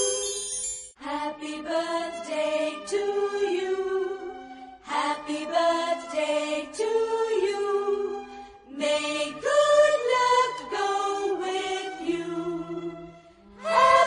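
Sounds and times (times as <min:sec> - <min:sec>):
slow sung song: 0:01.0 - 0:14.0.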